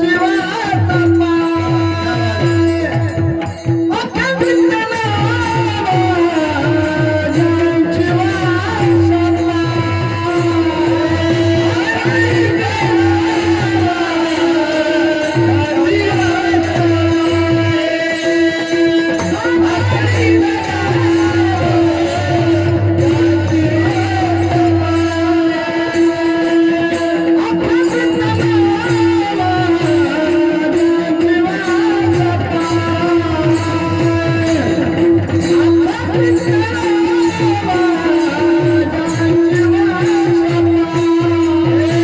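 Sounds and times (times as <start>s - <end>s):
hand cymbals keeping beat: 0.0s - 42.0s
man singing devotional song: 0.0s - 42.0s.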